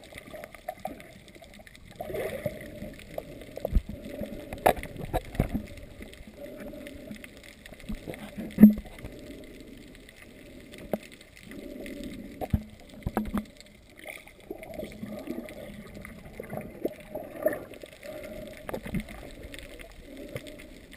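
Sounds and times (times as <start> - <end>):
underwater water movement: 0.0 - 20.9.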